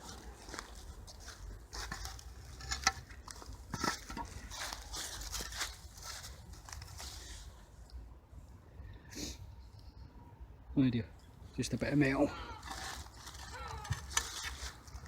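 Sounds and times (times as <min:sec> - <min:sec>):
debris and undergrowth rustling: 0:00.0 - 0:08.6, 0:11.2 - 0:15.0.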